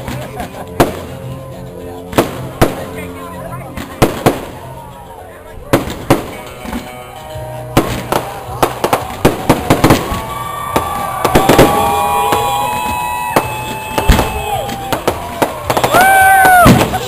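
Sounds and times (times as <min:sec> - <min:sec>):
fireworks bangs and crackles: 0:00.0 - 0:01.4, 0:02.0 - 0:04.8, 0:05.6 - 0:07.0, 0:07.6 - 0:17.0.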